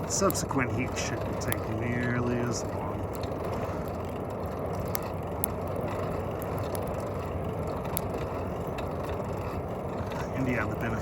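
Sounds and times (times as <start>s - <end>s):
burning sticks crackling: 0.0s - 11.0s
forge fire rushing: 0.0s - 11.0s.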